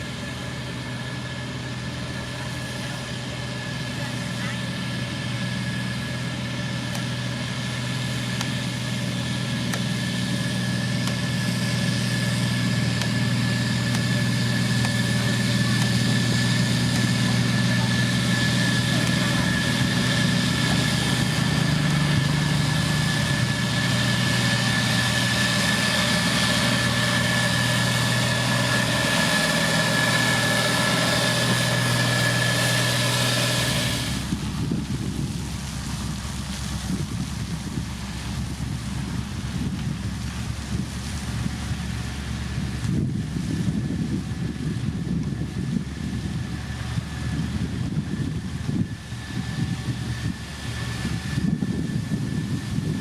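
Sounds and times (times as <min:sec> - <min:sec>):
heavy machine engine running: 0:00.0 - 0:53.0
high whine: 0:00.0 - 0:53.0.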